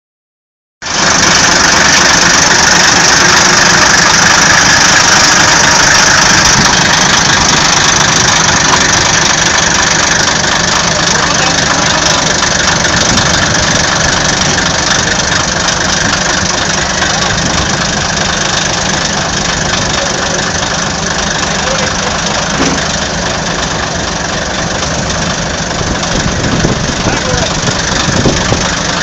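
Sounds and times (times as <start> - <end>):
tractor diesel engine running: 0.8 - 29.0.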